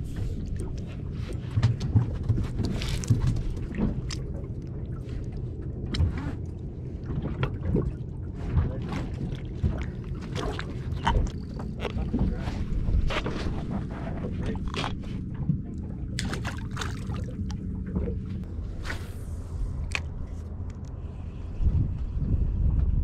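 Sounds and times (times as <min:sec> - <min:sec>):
low boat rumble: 0:00.0 - 0:23.0.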